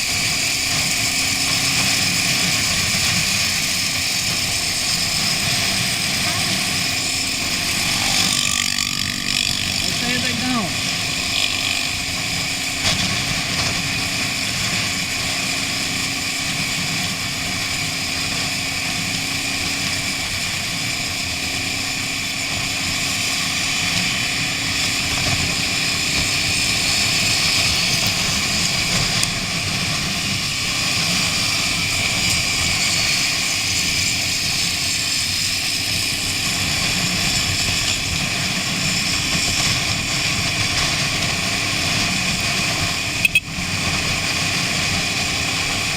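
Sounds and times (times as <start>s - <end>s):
motorcycle engine hum: 0.0s - 45.9s.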